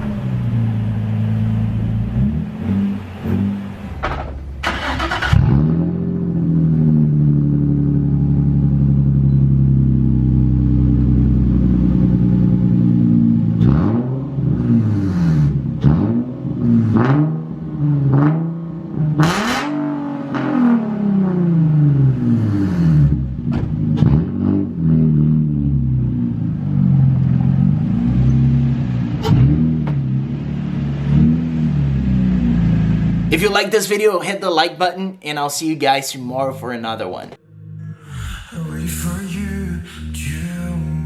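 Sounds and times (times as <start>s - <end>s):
car engine revving: 0.0s - 33.9s, 36.3s - 41.0s.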